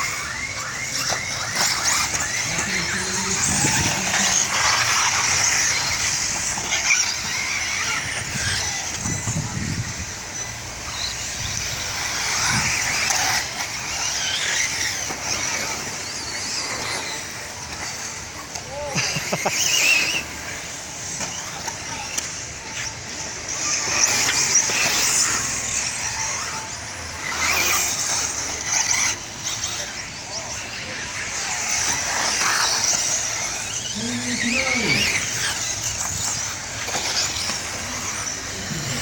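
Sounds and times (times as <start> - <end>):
rc car motors whining: 0.0 - 39.0
tyres on track: 0.0 - 39.0.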